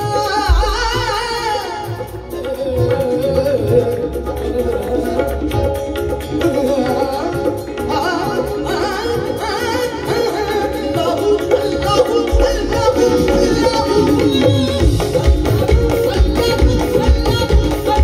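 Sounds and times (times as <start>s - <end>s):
drums: 0.0s - 18.0s
harmonium: 0.0s - 18.0s.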